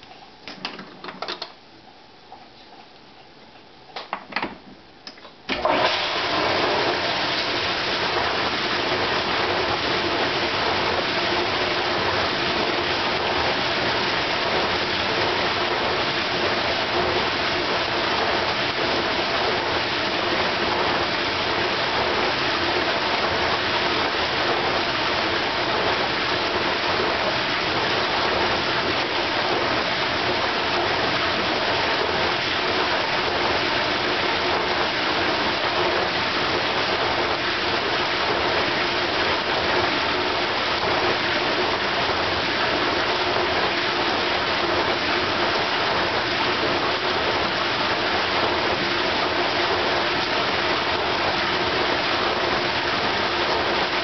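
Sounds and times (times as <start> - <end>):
dishwasher motor running: 5.5 - 54.0
water spraying against racks: 5.6 - 54.0.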